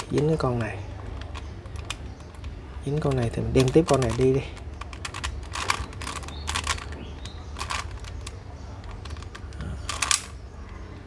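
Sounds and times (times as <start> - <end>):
plastic puzzle clicking: 0.0 - 10.8.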